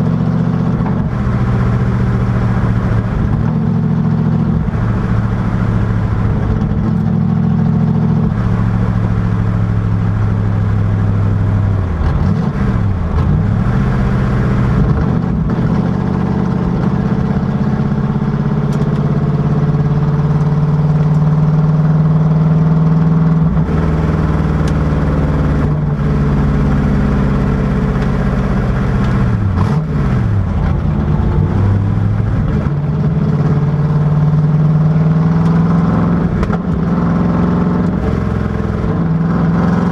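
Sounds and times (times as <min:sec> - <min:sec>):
car engine at speed: 0:00.0 - 0:39.9.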